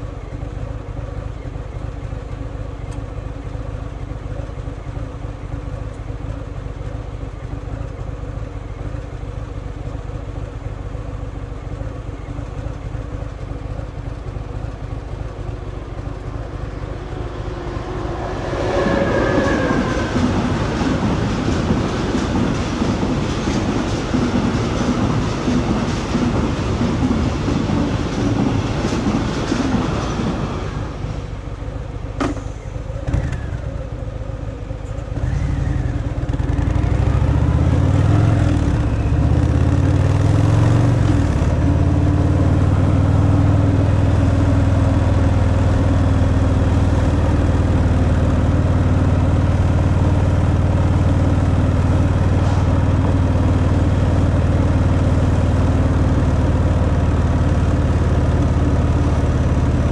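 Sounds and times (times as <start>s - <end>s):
wind and road noise: 0.0s - 59.9s
motorcycle engine: 0.2s - 59.9s.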